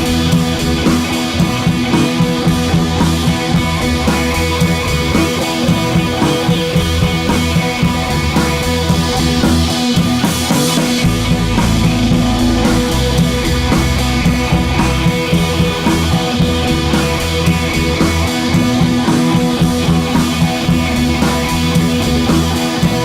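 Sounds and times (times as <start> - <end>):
rock music with guitar and drums: 0.0 - 23.0.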